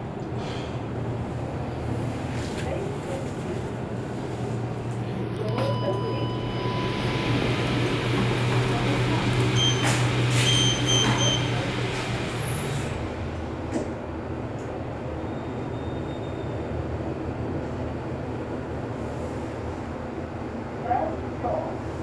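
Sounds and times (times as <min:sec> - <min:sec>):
lift car humming and rushing: 0:00.0 - 0:22.0.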